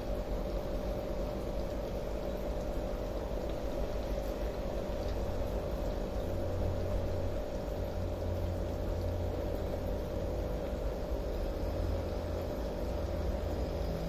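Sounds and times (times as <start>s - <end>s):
aquarium filter humming: 0.0s - 14.0s
water bubbling: 0.0s - 14.0s.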